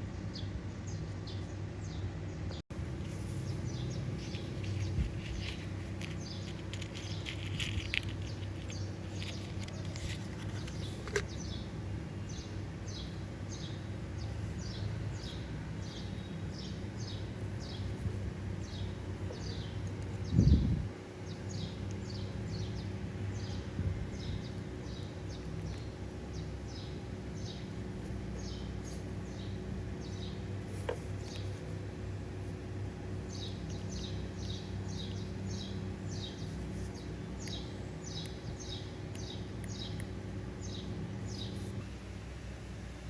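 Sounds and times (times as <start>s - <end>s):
steady low hum: 0.0s - 43.0s
small bird chirping: 0.3s - 41.8s.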